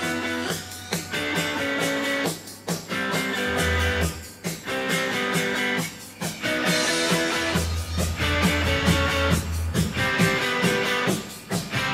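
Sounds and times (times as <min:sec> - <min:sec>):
guitar-led instrumental music: 0:00.0 - 0:11.9.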